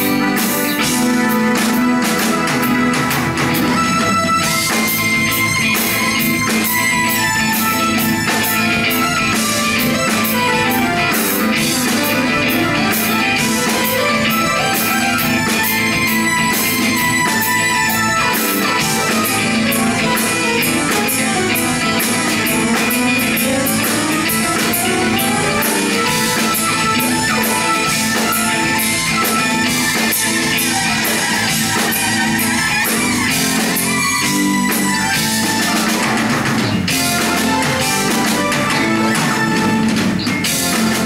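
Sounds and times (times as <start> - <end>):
drum kit beat: 0.0 - 41.0
electric bass: 0.0 - 41.0
electric guitar: 0.0 - 41.0.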